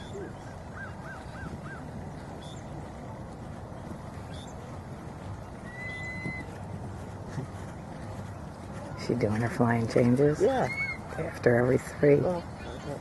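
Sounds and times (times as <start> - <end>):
birds calling: 0.0 - 9.4, 10.2 - 13.0
steady low background noise: 0.0 - 13.0.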